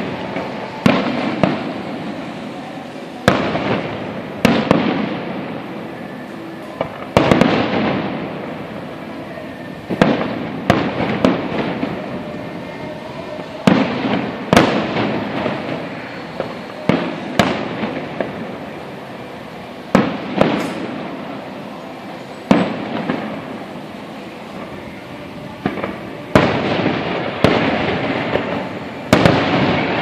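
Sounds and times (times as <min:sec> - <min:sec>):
fireworks bangs: 0:00.0 - 0:30.0
rumbling echo with crackling: 0:00.0 - 0:30.0.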